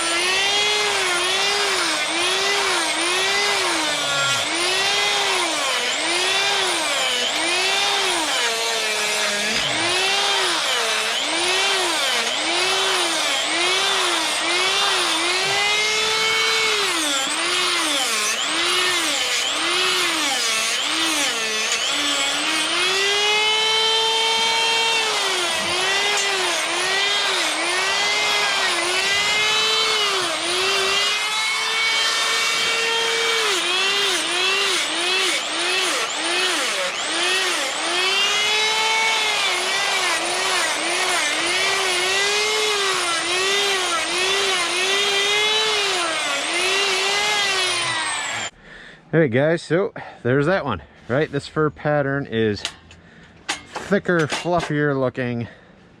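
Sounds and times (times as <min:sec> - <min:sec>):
power carving tool cutting wood: 0:00.0 - 0:48.6.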